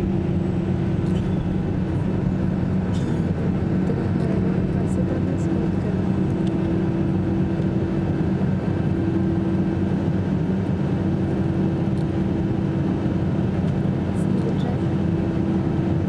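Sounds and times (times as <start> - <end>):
jet engines humming in cabin: 0.0 - 16.0.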